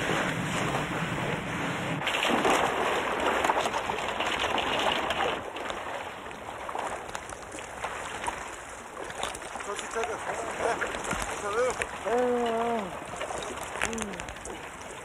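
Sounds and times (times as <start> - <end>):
water lapping: 0.0 - 15.0
water splashing and sloshing: 0.0 - 15.0.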